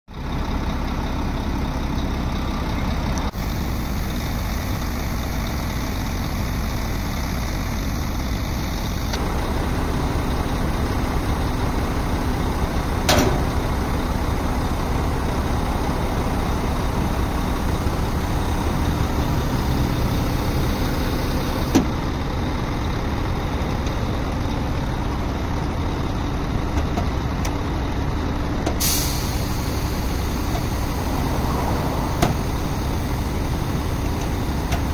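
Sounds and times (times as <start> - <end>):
forklift engine running: 0.1 - 34.9.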